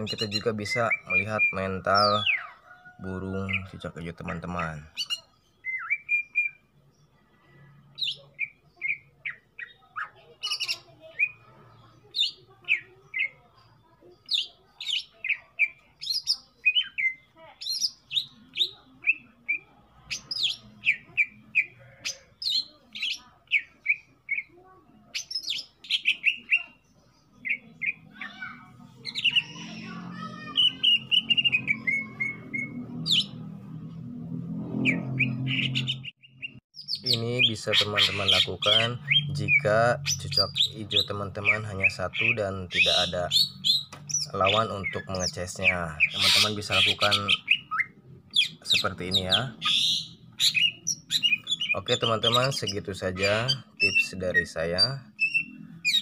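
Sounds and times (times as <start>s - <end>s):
bird chirping and warbling: 0.0s - 56.0s.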